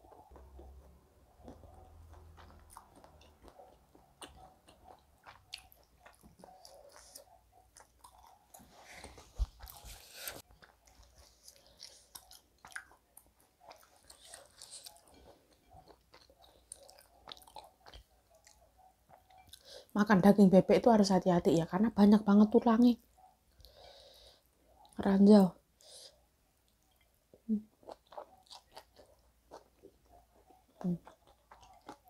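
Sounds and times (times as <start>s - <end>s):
person chewing food: 0.0s - 19.9s, 25.8s - 32.0s.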